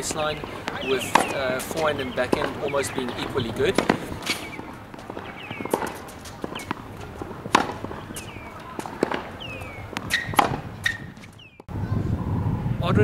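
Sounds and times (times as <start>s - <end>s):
tennis ball hits: 0.0s - 11.6s.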